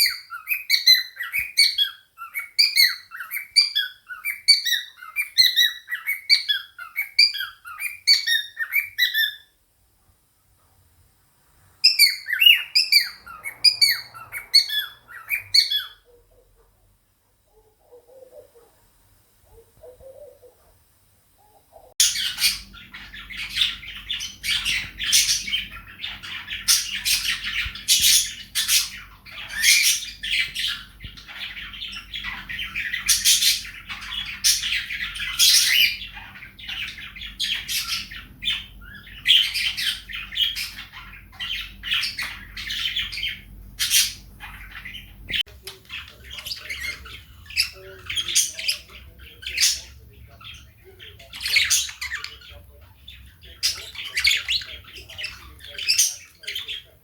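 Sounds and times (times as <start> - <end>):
parrots chattering and squawking: 0.0 - 9.6, 11.8 - 57.0
faint steady hum: 0.0 - 57.0.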